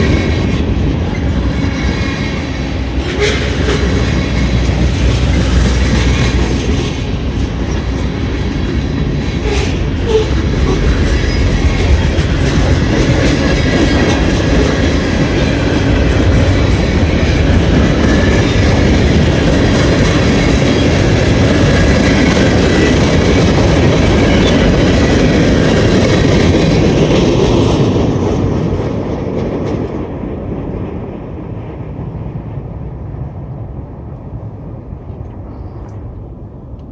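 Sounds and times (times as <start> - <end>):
train wheels clacking on rails: 0.0 - 33.4
freight train rumble: 0.0 - 36.9.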